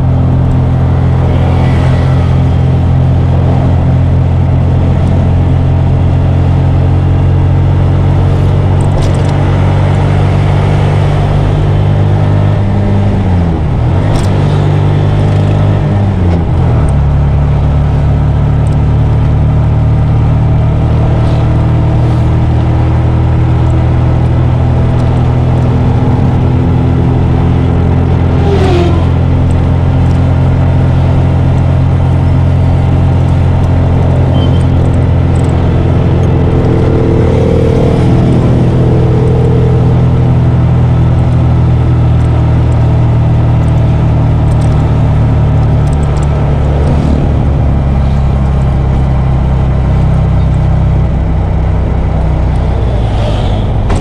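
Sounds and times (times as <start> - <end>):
vehicle engine and road drone: 0.0 - 54.0.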